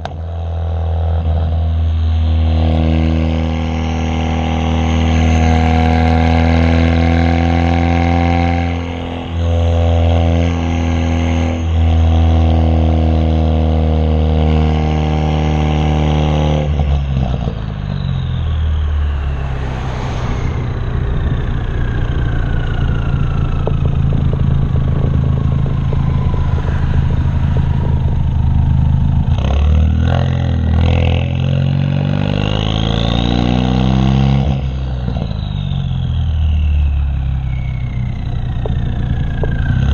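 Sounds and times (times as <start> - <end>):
car exhaust drone: 0.0 - 39.9
turbo whine: 1.2 - 14.0, 14.9 - 31.6, 32.4 - 39.9.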